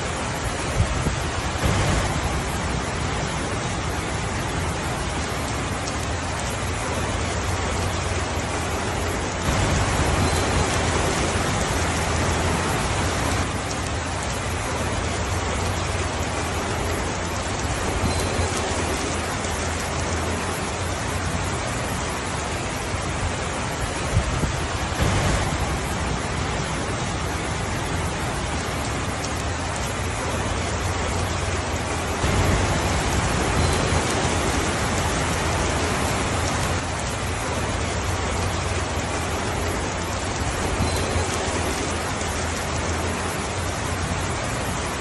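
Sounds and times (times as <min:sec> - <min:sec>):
steady rainfall: 0:00.0 - 0:45.0.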